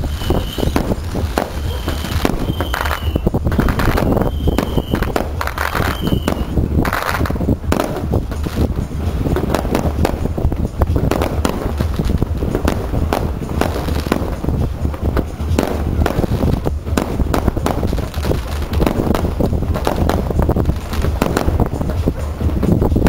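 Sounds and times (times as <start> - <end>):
fireworks bangs and crackles: 0.0 - 23.0
low rumble: 0.0 - 23.0.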